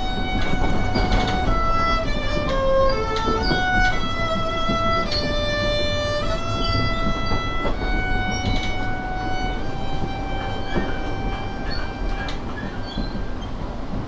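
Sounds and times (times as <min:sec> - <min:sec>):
solo violin melody: 0:00.0 - 0:13.4
low rumble of subway car: 0:00.0 - 0:14.0.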